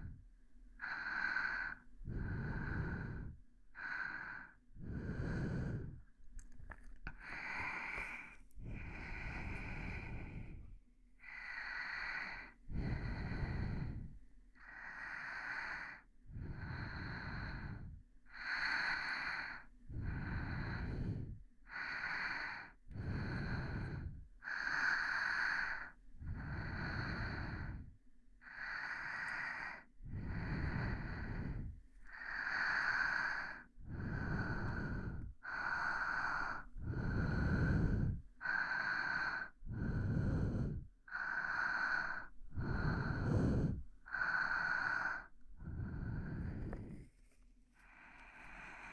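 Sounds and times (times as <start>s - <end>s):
person breathing softly: 0.0s - 48.9s.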